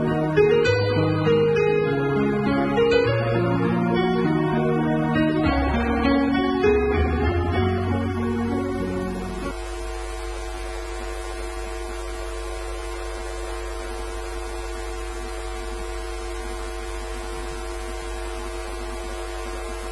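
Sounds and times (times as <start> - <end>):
electrical hum: 0.0 - 19.9.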